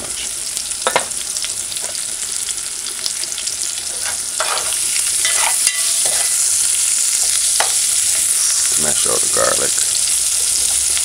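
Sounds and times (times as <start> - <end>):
vegetables sizzling in a metal pot: 0.0 - 11.0.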